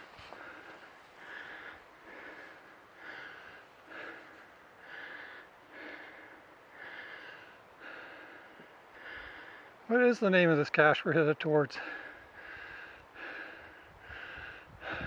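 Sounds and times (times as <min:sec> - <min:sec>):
person breathing hard: 0:00.0 - 0:09.8, 0:11.8 - 0:15.0.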